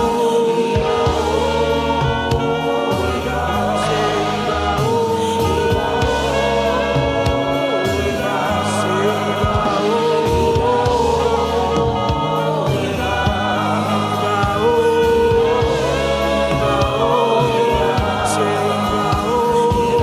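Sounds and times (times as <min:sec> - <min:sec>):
bass guitar: 0:00.0 - 0:20.0
drums: 0:00.0 - 0:20.0
gospel choir singing: 0:00.0 - 0:20.0
keyboard: 0:00.0 - 0:20.0.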